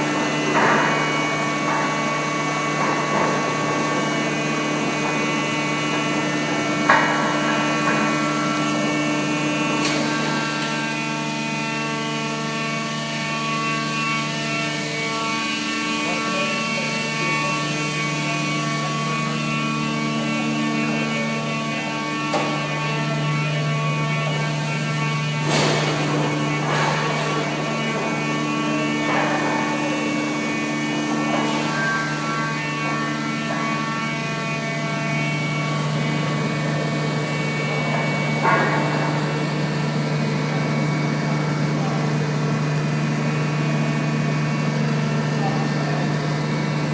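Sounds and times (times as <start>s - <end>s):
machine hum: 0.0s - 46.9s.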